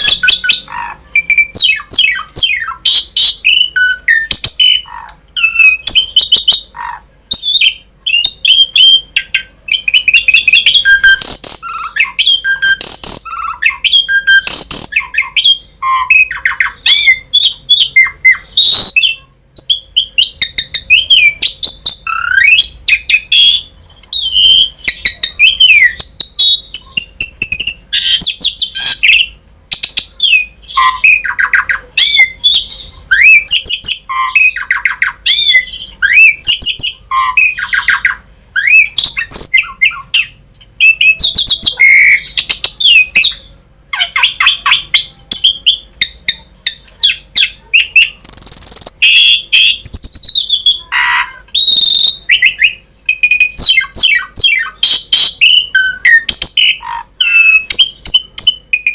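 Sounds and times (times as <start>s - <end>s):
starling singing: 0.0s - 58.9s.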